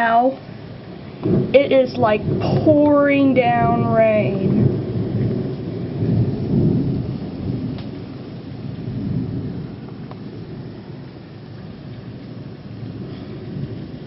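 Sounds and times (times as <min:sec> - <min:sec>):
heavy rain: 0:00.0 - 0:14.0
thunder rolling: 0:00.0 - 0:14.0.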